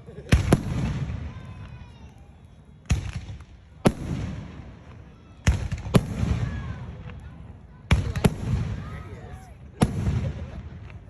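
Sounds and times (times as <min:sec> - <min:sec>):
fireworks bangs: 0:00.0 - 0:11.0
rolling rumble of fireworks: 0:00.0 - 0:11.0.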